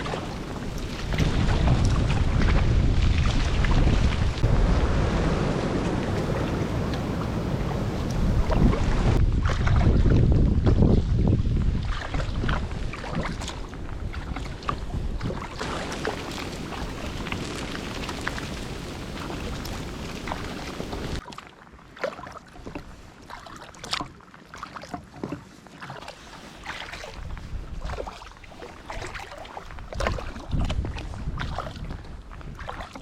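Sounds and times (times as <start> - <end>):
wind rumbling on microphone: 0.0 - 21.2, 26.6 - 33.0
water splashing against kayak: 0.0 - 33.0.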